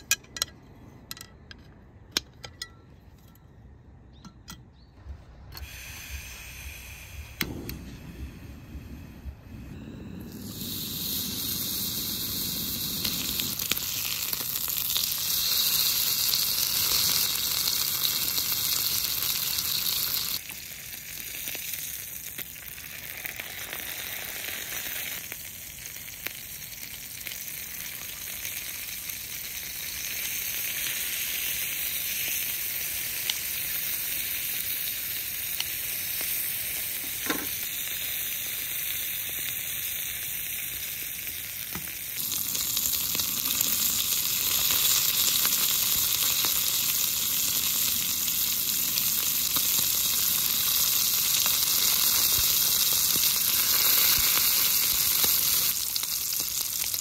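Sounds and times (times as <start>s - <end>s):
food sizzling: 5.6s - 57.0s.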